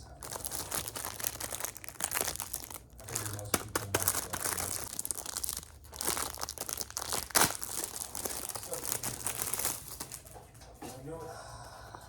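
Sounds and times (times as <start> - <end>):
package wrapping crinkling: 0.1 - 10.5.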